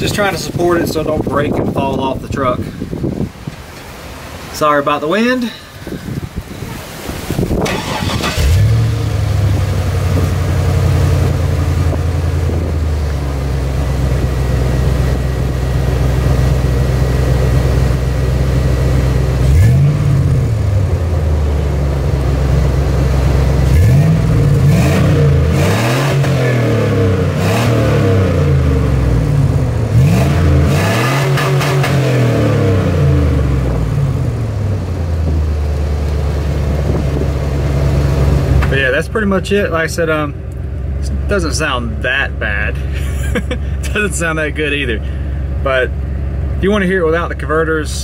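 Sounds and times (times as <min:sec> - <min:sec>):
truck engine idling and revving: 0:06.1 - 0:48.0.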